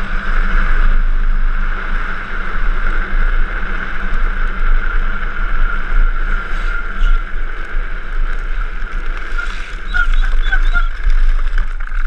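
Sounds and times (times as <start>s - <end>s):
wheels hissing on road: 0.0s - 11.9s
wind buffeting camera: 0.0s - 12.0s.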